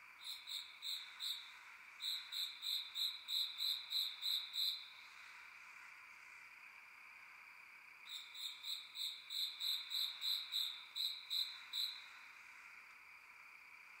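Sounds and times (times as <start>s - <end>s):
cricket chirping: 0.0s - 14.0s
faint high hiss: 0.0s - 14.0s.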